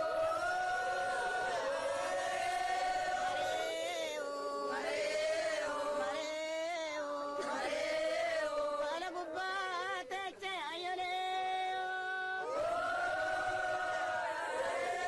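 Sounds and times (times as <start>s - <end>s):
group chanting in unison: 0.0s - 10.4s, 11.6s - 15.0s.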